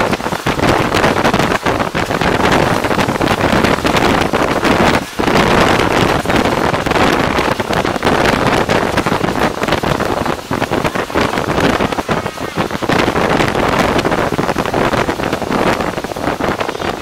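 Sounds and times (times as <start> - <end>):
train running rumble: 0.0 - 17.0
wind buffeting microphone: 0.0 - 17.0.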